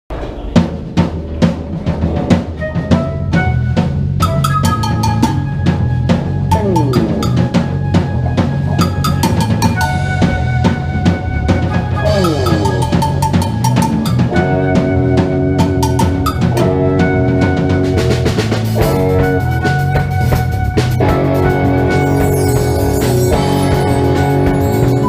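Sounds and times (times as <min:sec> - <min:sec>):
bass line: 0:00.1 - 0:25.0
drum kit beat: 0:00.1 - 0:25.0
guitar and keyboard notes: 0:01.3 - 0:25.0.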